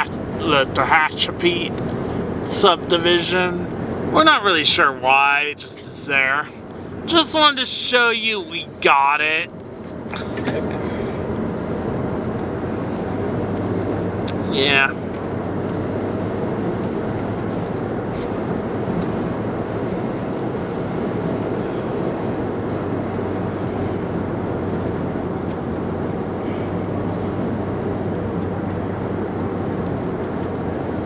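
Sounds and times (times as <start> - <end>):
car engine and road drone: 0.0 - 31.0.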